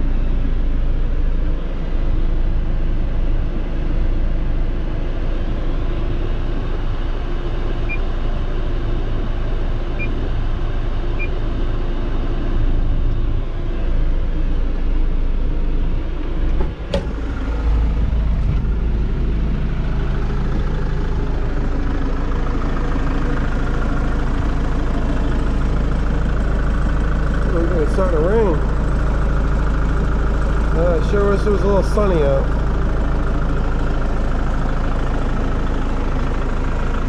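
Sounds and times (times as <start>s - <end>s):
diesel tractor engine idling: 0.0s - 37.0s.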